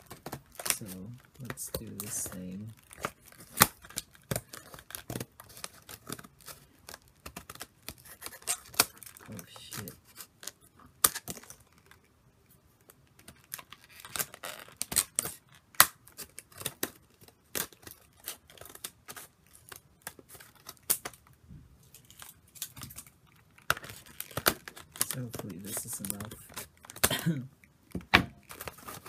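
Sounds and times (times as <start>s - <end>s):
plastic packaging crackling: 0.0s - 29.0s.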